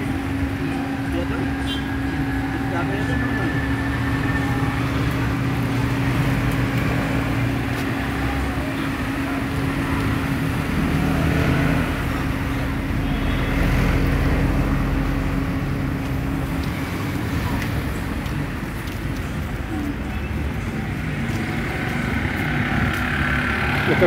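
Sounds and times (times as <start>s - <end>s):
steady engine hum: 0.0s - 24.0s
vehicles passing: 0.0s - 24.0s.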